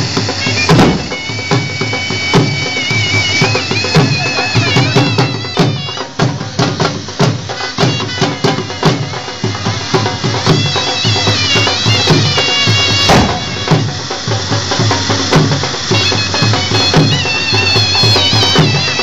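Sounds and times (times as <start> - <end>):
steady drum beats: 0.0 - 19.0
wind instrument melody: 0.0 - 19.0.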